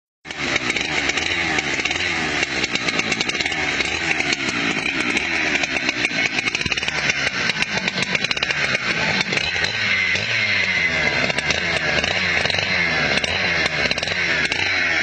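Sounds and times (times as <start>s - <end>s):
chainsaw cutting: 0.2s - 15.0s.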